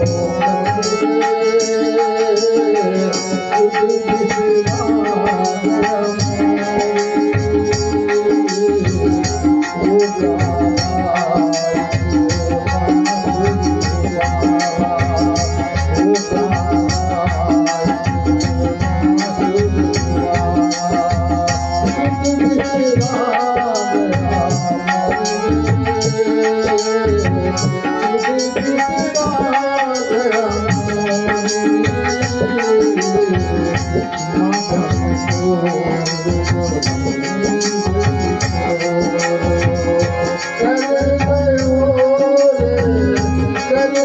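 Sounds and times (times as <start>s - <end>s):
rapid bright percussion strikes: 0.0s - 44.0s
voices singing devotional song: 0.0s - 44.0s.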